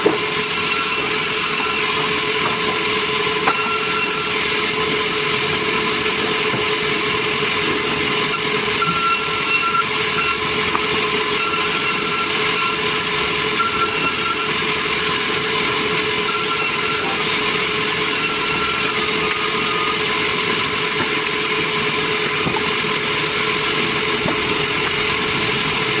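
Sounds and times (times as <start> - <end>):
sawmill saw cutting timber: 0.0 - 26.0.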